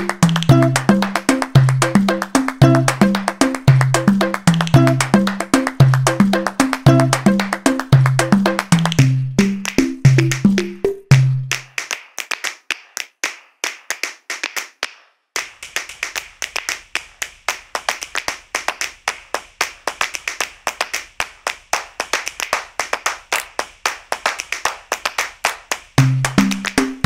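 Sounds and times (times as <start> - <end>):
rhythmic hand claps: 0.0 - 27.0.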